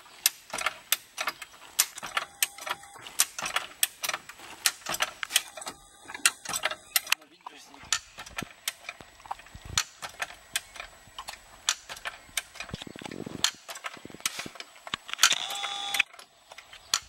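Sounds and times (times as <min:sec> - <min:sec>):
car jack clicking: 0:00.2 - 0:07.2, 0:07.8 - 0:17.0.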